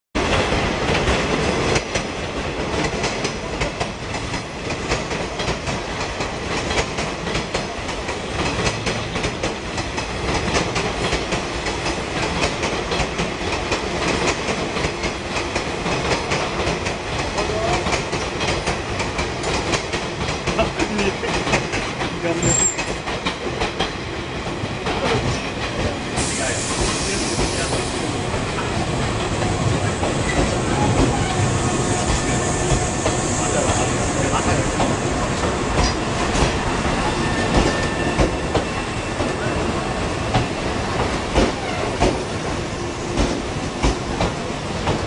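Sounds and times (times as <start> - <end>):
electric train passing: 0.2 - 45.0
train wheels clicking over rail joints: 0.2 - 45.0.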